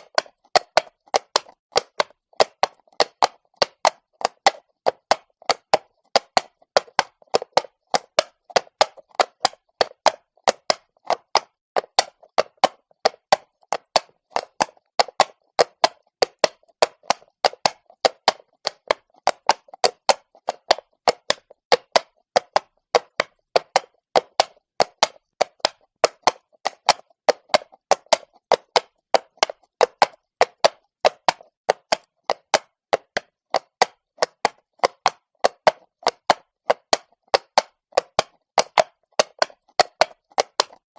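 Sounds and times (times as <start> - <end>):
horse hooves on cobblestones: 0.0 - 40.9.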